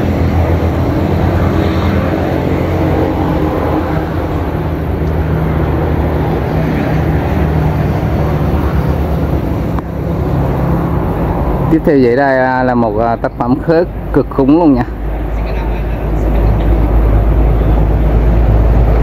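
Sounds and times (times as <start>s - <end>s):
low engine-like rumble and hum: 0.0s - 19.0s.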